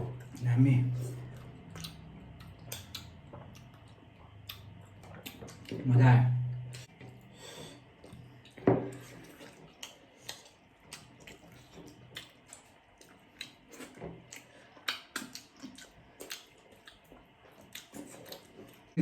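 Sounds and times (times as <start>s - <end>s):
wet chewing and slurping: 1.0s - 5.8s, 6.7s - 19.0s.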